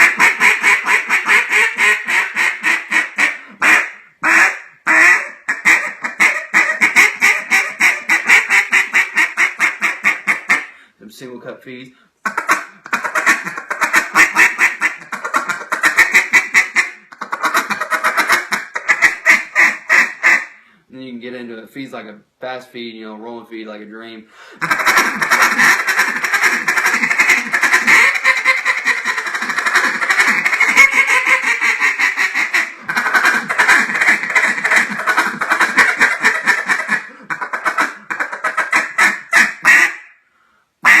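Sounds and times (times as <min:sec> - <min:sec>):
duck call quacking chatter: 0:00.0 - 0:10.7, 0:12.2 - 0:20.5, 0:24.6 - 0:40.1.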